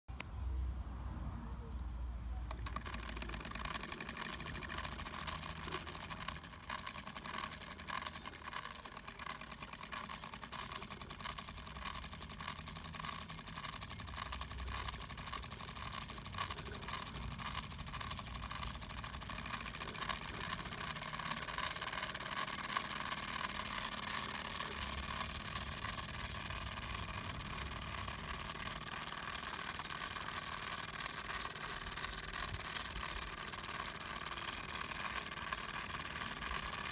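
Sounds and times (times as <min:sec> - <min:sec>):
light mechanical clatter: 0:02.3 - 0:36.9.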